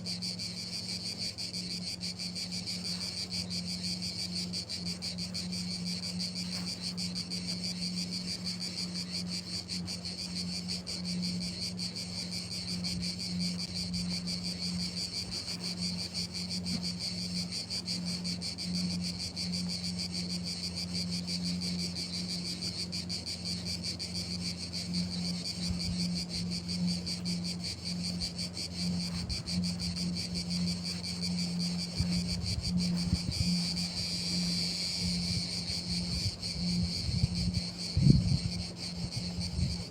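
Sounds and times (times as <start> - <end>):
crickets chirping: 0.0 - 39.9
steady low hum: 0.0 - 39.9.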